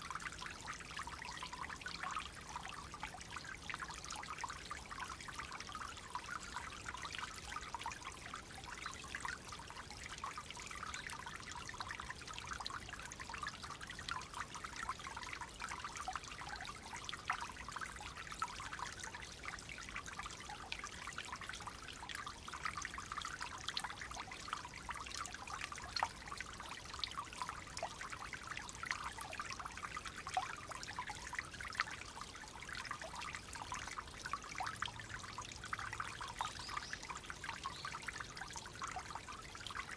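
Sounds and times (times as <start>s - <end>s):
water flowing and trickling: 0.0s - 39.9s.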